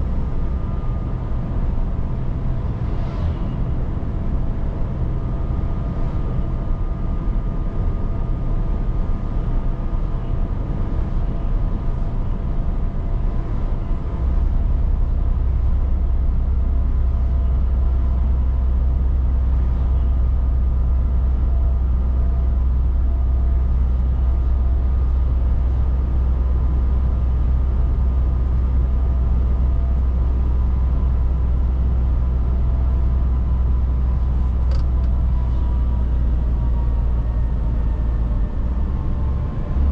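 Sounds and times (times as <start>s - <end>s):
deep low hum: 0.0s - 39.9s
truck engine and road noise: 0.0s - 39.9s.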